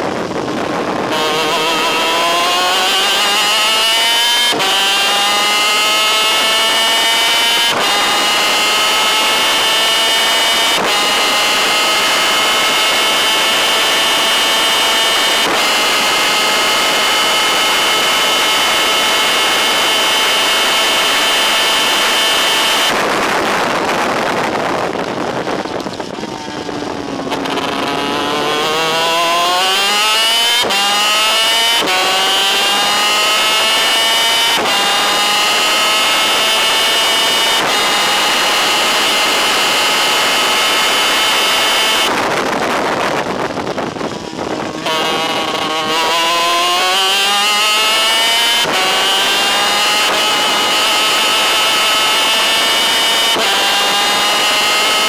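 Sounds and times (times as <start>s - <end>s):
kart engine at full throttle: 0.0s - 55.0s.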